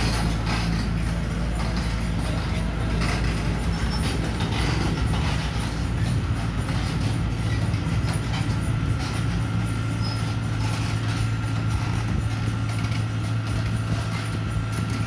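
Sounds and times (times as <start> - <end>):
diesel engine drone: 0.0 - 15.0
metallic clatter: 0.0 - 15.0.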